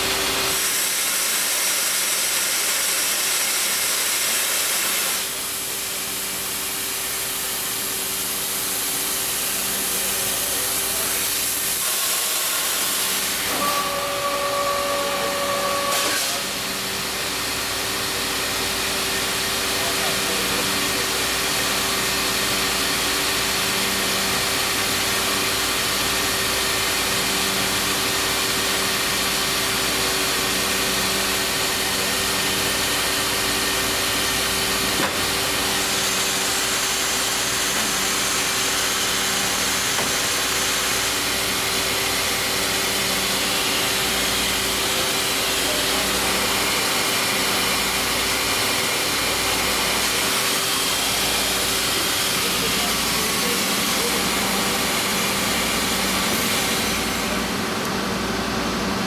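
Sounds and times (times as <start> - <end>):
welding machine hiss and hum: 0.0 - 59.0.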